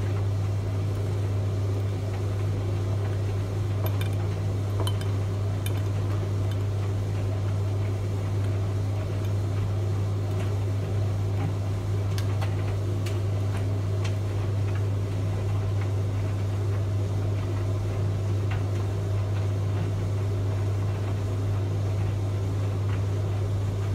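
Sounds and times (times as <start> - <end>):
steady low machine hum: 0.0 - 23.9.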